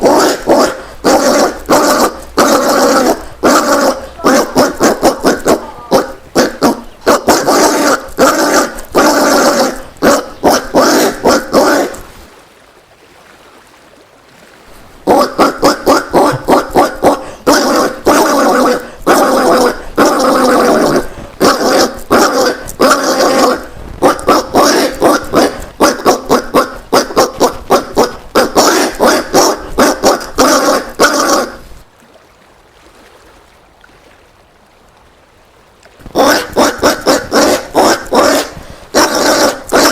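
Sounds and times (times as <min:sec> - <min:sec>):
peccary rough calls: 0:00.0 - 0:12.2, 0:15.0 - 0:31.8, 0:36.0 - 0:39.9.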